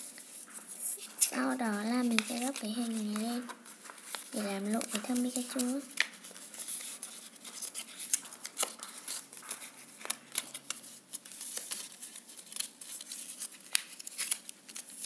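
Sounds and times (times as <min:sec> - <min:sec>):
paper being folded: 0:00.0 - 0:15.0.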